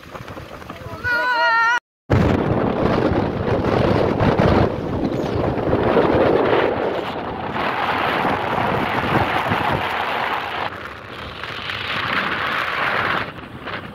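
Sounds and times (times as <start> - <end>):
wind rushing over microphone: 0.0 - 13.9.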